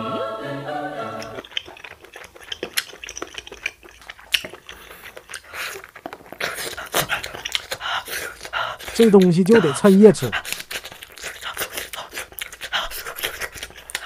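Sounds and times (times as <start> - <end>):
biting and chewing sausage: 1.1 - 14.0.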